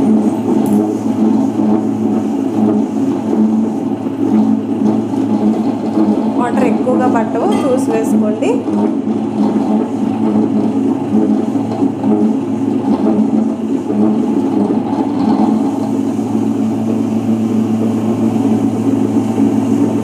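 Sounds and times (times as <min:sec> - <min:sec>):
wet grinder motor humming: 0:00.0 - 0:20.0.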